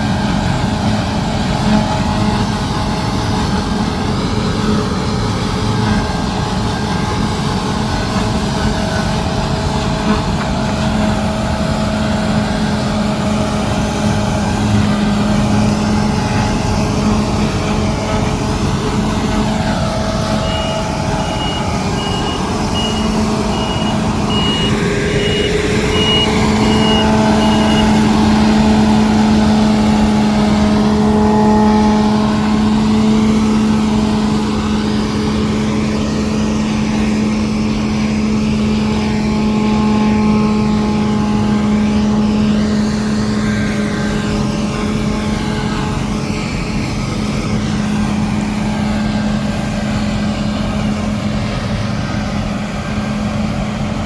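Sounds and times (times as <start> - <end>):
harvest machinery droning: 0.0 - 54.0
reversing beeper: 4.6 - 53.5.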